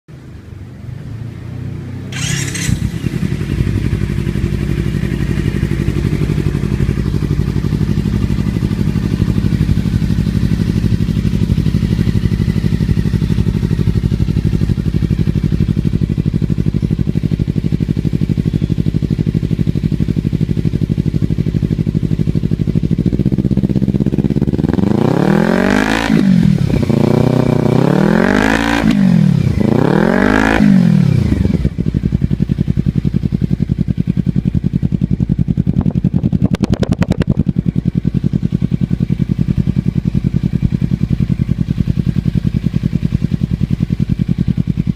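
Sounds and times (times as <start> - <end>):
motorcycle engine idling and revving: 0.1 - 44.9.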